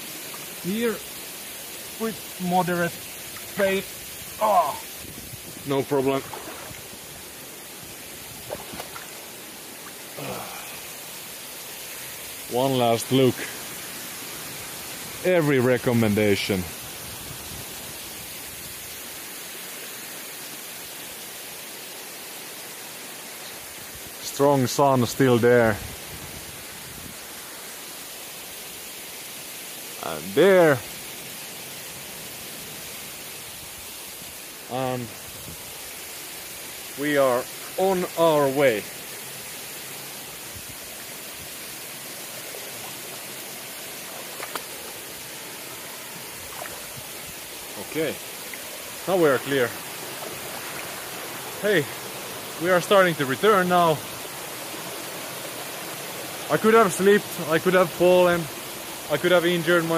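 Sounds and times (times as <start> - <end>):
waterfall rushing onto boulders: 0.0 - 59.9.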